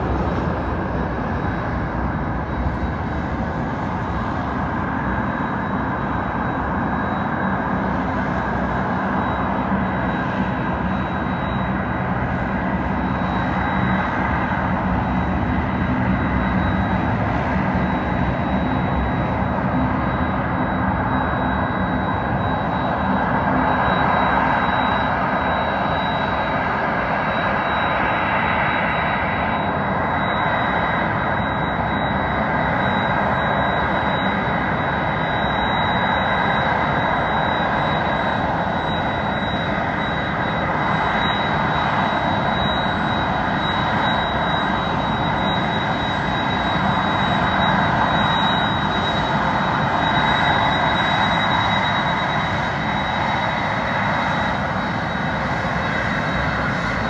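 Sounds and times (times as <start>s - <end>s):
jet engines rumbling with whine: 0.0s - 57.0s.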